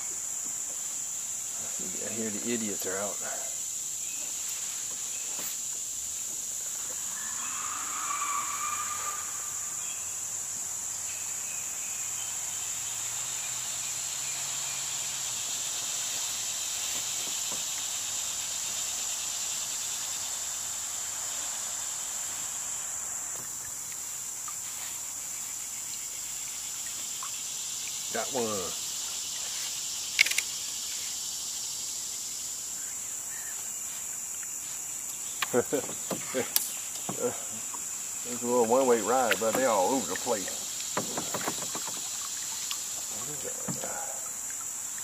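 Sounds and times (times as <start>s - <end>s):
cicadas buzzing: 0.0s - 45.0s.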